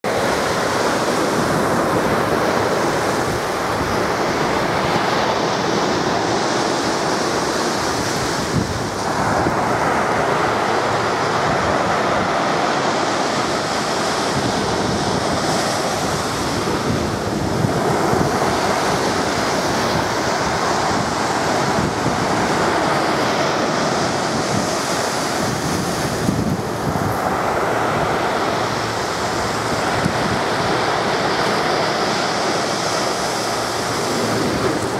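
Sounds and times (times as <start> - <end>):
sea surf breaking: 0.0 - 34.9
wind buffeting microphone: 0.1 - 34.9.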